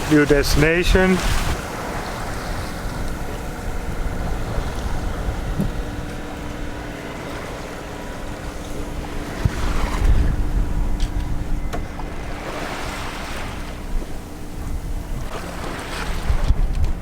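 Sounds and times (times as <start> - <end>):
water splashing along boat hull: 0.0 - 17.0
wind buffeting microphone: 0.0 - 17.0.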